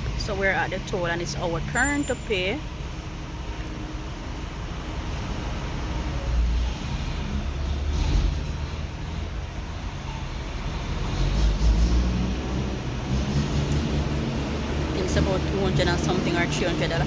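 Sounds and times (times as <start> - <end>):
surrounding traffic: 0.0 - 17.0.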